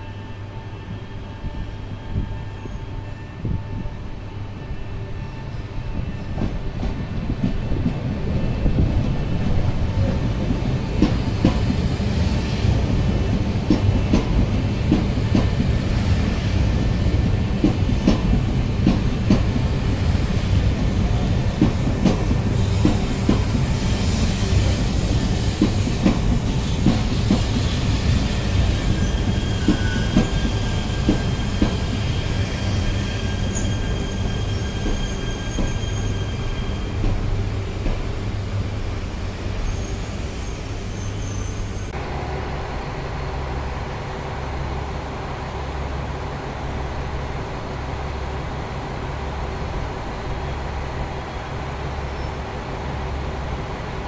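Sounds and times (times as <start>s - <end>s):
train rumbling over track: 0.0s - 54.0s.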